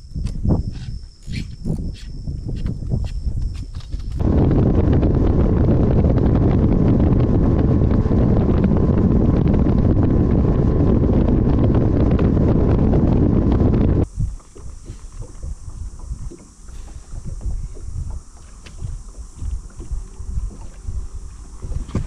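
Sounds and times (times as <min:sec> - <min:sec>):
boat engine and hull noise: 0:00.0 - 0:22.0
wind rushing on microphone: 0:00.0 - 0:22.0.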